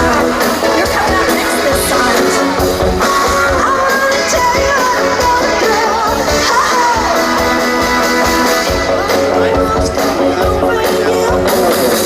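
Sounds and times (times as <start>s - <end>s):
pop-rock song with singing: 0.0s - 12.0s.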